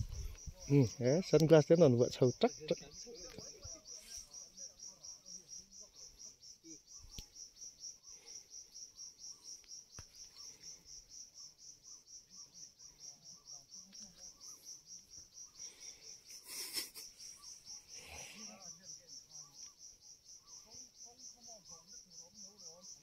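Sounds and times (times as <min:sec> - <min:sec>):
insect chirping: 0:00.0 - 0:23.0.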